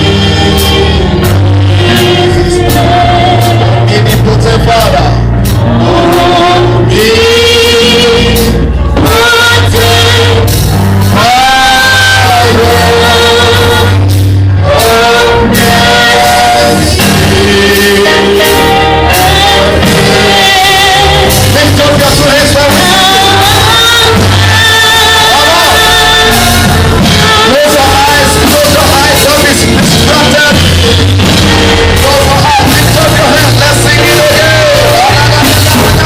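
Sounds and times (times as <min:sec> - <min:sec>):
gospel singing over a band: 0:00.0 - 0:36.0.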